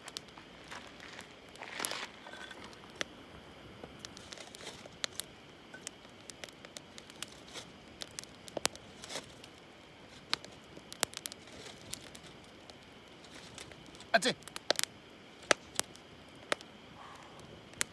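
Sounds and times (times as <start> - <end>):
campfire crackling and popping: 0.0 - 17.9.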